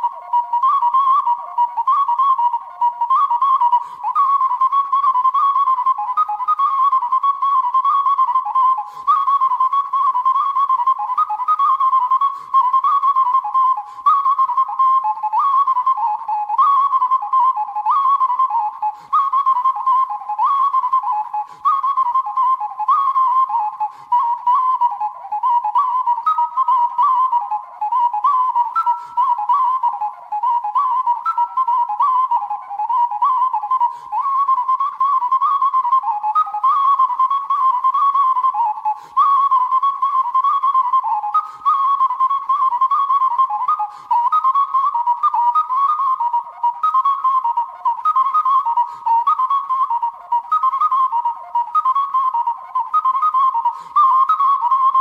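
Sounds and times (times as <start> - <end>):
flute-like wind instrument melody: 0.0 - 55.0.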